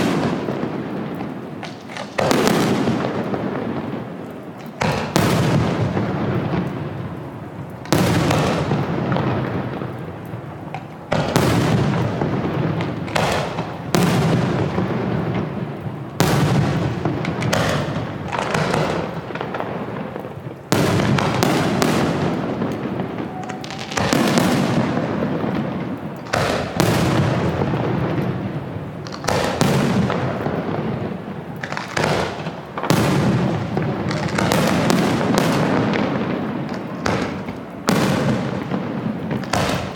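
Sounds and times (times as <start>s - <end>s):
fireworks booming: 0.0s - 39.9s.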